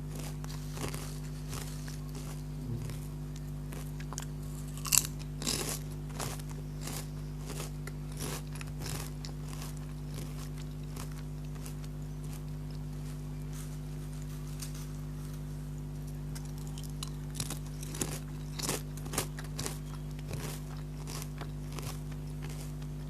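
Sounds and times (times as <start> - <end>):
chip bitten with a crack: 0.0 - 13.0, 16.3 - 23.0
potato chips crunching: 0.0 - 15.4, 16.1 - 23.0.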